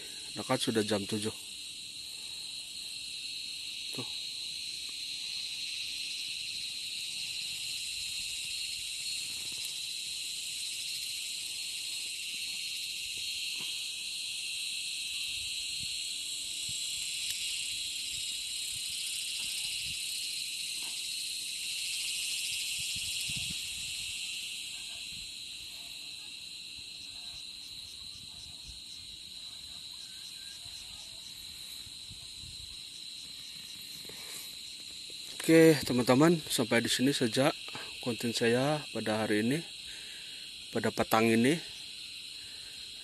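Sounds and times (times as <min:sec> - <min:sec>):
insects shrilling: 0:00.0 - 0:43.0.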